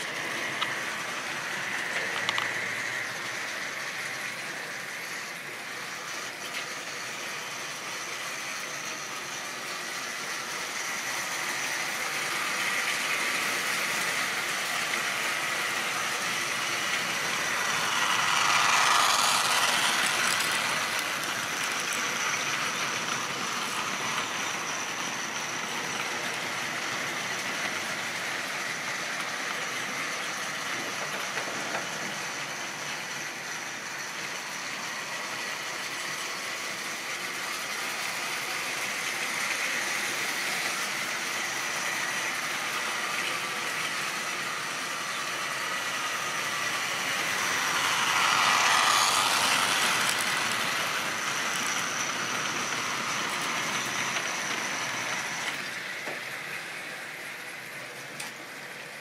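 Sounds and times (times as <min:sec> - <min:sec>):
model train running on track: 0:00.0 - 0:59.0.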